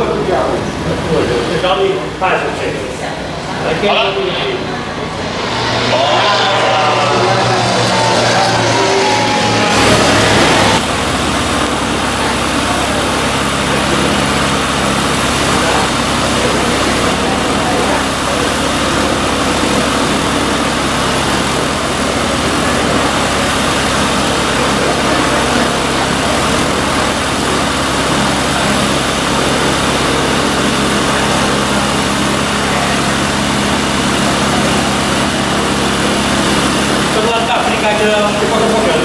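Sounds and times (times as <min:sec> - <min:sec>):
light aircraft engine idling: 0:00.0 - 0:39.0.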